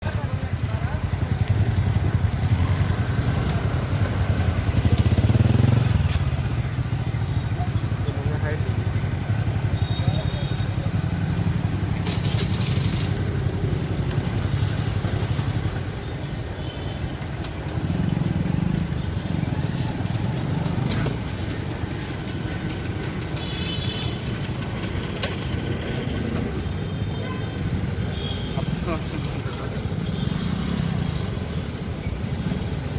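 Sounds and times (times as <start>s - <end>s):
road traffic rumble: 0.0s - 32.9s.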